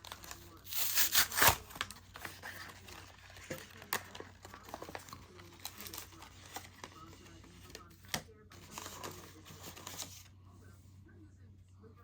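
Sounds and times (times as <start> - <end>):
cards rustling: 0.0 - 10.4.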